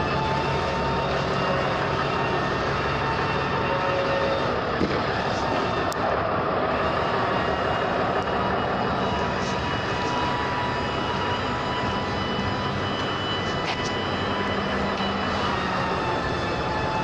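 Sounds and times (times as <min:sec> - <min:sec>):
faint steady tones: 0:00.0 - 0:17.0
loud steady drone: 0:00.0 - 0:17.0.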